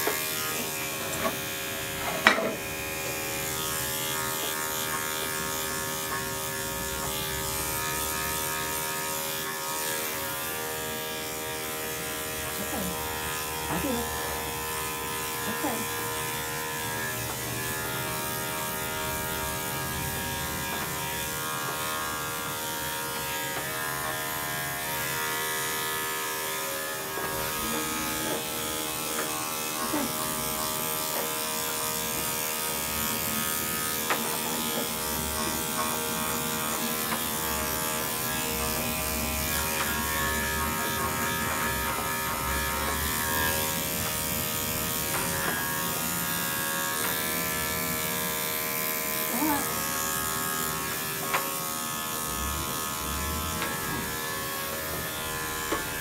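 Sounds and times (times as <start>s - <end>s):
electric clippers buzzing: 0.0s - 56.0s.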